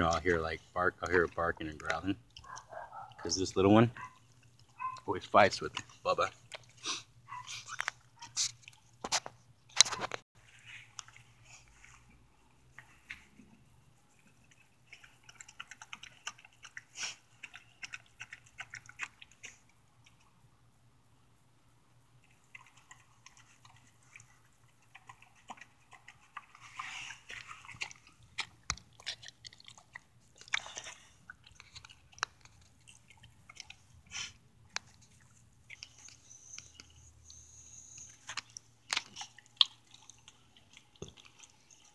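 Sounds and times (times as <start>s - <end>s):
dog chewing wetly: 0.0s - 20.5s, 22.1s - 41.9s.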